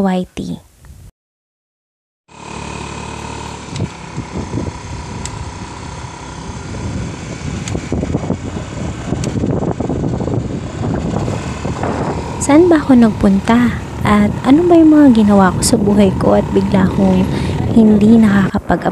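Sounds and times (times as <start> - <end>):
motorcycle running: 2.3 - 18.9
wind buffeting microphone: 3.6 - 18.9.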